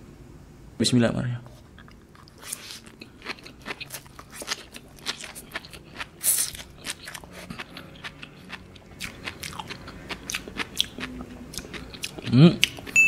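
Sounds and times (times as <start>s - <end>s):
chewing popping sea grapes: 1.6s - 13.0s.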